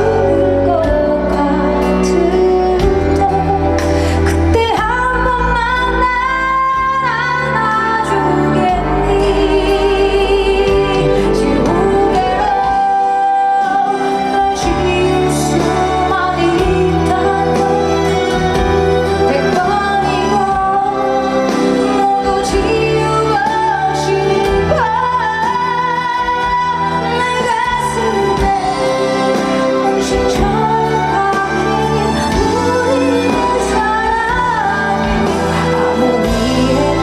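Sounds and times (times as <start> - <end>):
band accompaniment: 0.0 - 37.0
woman singing: 0.0 - 37.0.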